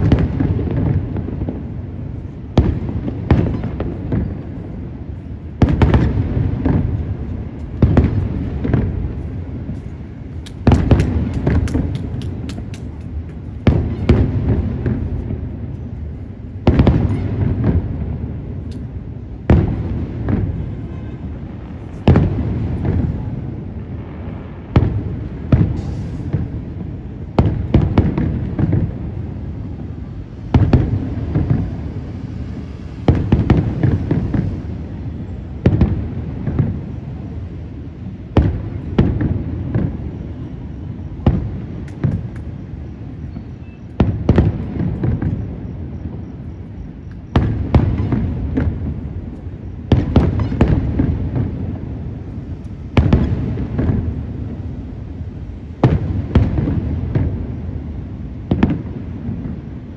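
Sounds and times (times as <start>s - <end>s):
fireworks bangs with rumbling echo: 0.0s - 59.9s
fireworks crackling: 0.0s - 59.9s.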